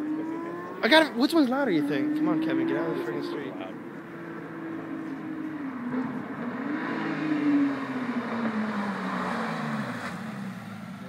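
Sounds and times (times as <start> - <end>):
sports car passing by: 0.0 - 11.0.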